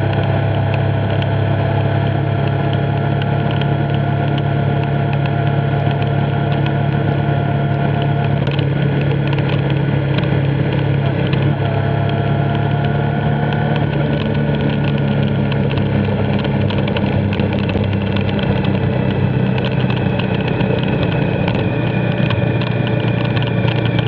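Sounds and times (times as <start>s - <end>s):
motorcycle engine running: 0.0s - 24.0s
tyres on wet road: 0.0s - 24.0s
wind: 0.0s - 24.0s.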